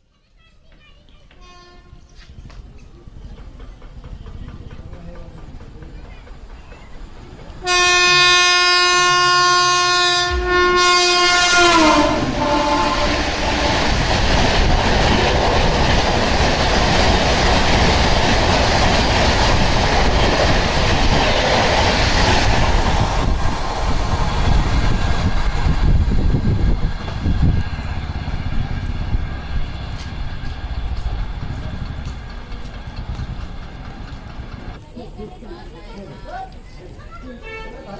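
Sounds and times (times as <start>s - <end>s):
train wheels clattering on rails: 0.5s - 8.8s, 10.3s - 34.8s.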